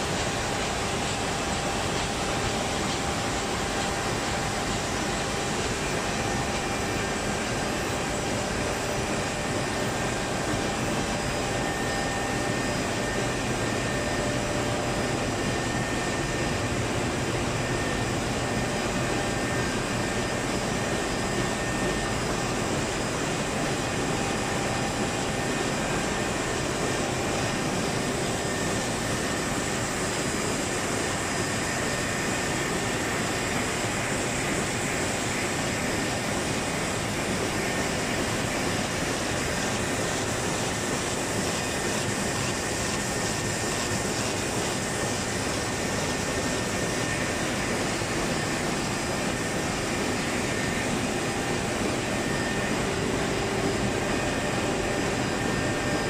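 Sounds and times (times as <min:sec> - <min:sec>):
production line machinery whir: 0:00.0 - 0:56.0.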